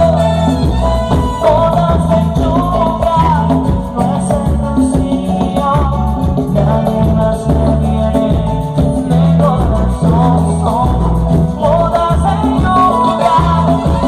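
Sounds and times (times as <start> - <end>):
latin dance band playing: 0.0 - 14.0.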